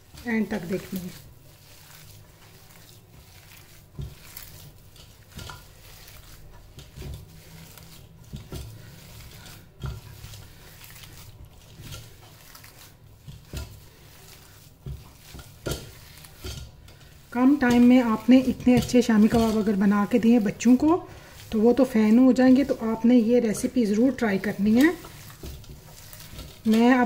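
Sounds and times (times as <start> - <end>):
hand squeezing batter: 0.0 - 27.0.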